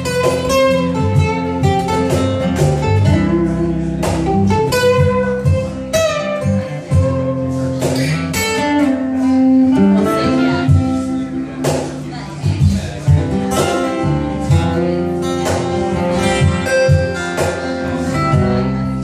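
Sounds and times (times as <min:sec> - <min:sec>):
acoustic guitars strumming: 0:00.0 - 0:19.0.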